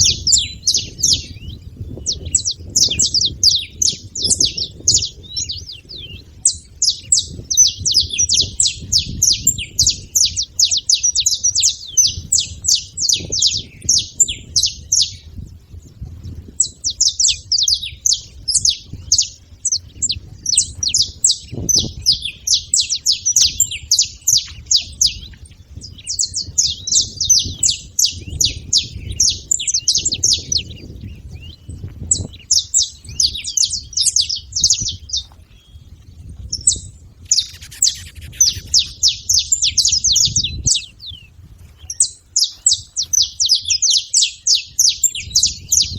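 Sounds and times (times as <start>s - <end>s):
finches singing: 0.0s - 45.9s.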